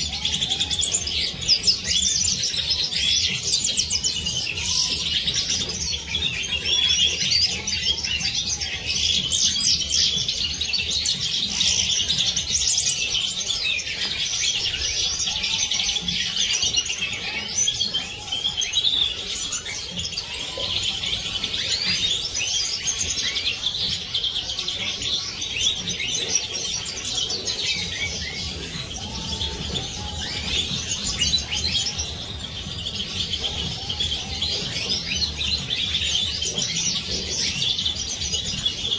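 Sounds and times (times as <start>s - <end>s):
finches singing and twittering: 0.0s - 38.9s.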